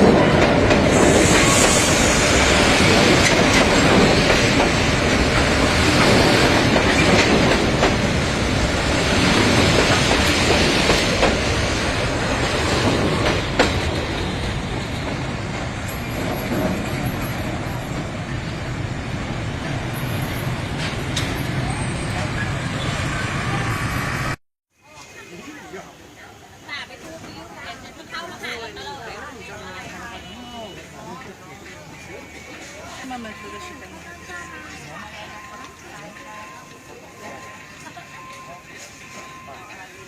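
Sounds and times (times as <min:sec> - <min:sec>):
train wheels on rails: 0:00.0 - 0:24.4, 0:26.2 - 0:40.0.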